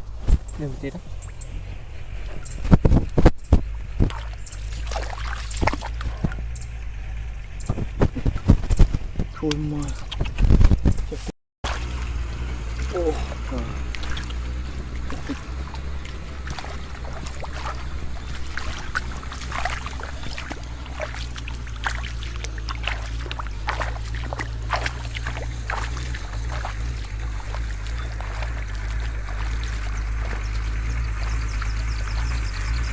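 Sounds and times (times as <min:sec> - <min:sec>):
low hum: 0:00.0 - 0:32.9
water splashing and sloshing: 0:00.0 - 0:32.9.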